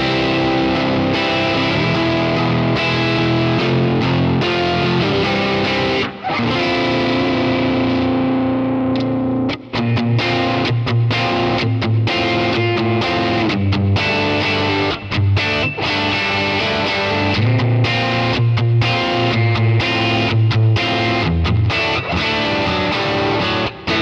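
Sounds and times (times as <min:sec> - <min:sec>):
electric guitar strummed chords: 0:00.0 - 0:24.0.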